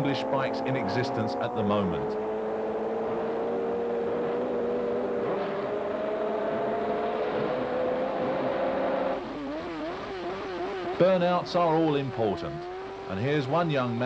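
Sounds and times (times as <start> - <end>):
motorcycle engines at high revs: 0.0 - 14.0.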